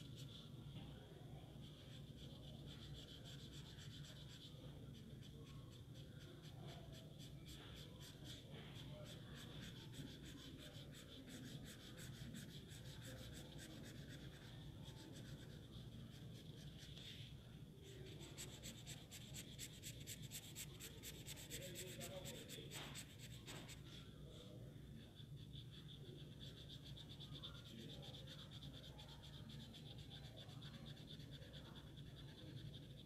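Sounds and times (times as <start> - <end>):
pen scratching on paper: 0.0 - 0.5, 1.5 - 24.4, 25.0 - 33.0.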